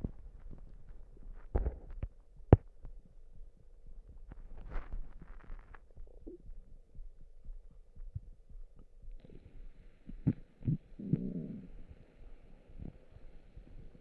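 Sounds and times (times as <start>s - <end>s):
stomach gurgling: 0.0s - 14.0s.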